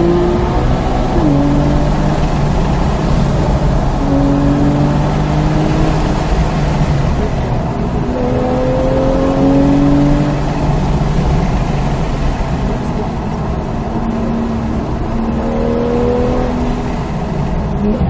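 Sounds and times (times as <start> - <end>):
car engine running at speed: 0.0 - 18.0
tyre and road noise: 0.0 - 18.0.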